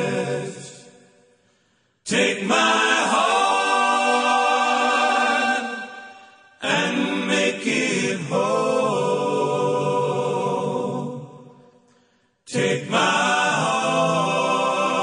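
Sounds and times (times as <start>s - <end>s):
choir-like voices singing: 0.0s - 1.2s, 2.1s - 11.9s, 12.5s - 15.0s.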